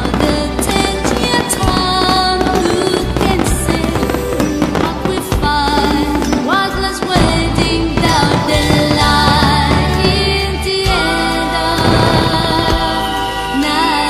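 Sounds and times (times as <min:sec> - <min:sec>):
firework bangs and crackle: 0:00.0 - 0:14.0
music with steady bass and melody: 0:00.0 - 0:14.0.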